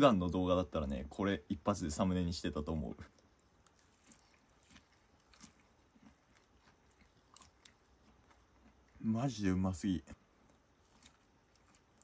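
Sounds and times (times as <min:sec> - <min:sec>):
chewing crunchy food: 0:02.3 - 0:12.0.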